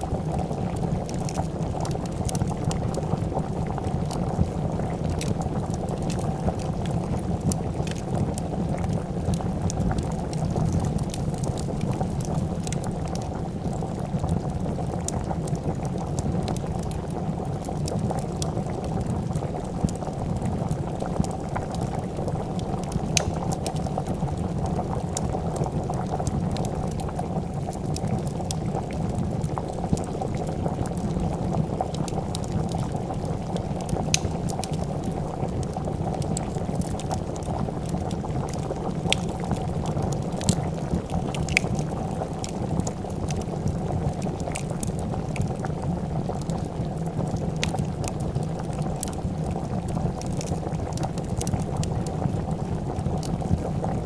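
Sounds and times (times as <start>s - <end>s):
soup bubbling in a pot: 0.0s - 54.0s
wood fire crackling: 0.0s - 54.0s.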